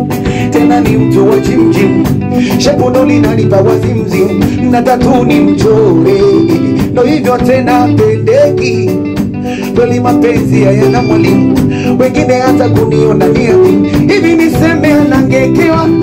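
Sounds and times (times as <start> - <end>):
live band playing: 0.0 - 16.0
man singing into microphone: 0.0 - 16.0.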